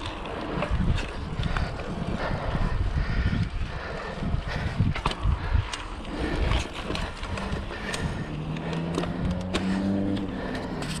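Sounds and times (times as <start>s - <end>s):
bicycle rattling: 0.0s - 11.0s
wind rumble on microphone: 0.0s - 11.0s.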